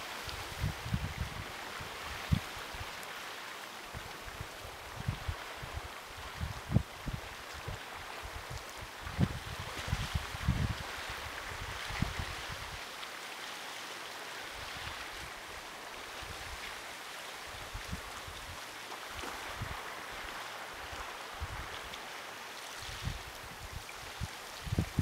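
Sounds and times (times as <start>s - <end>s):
water washing along shore: 0.0s - 25.0s.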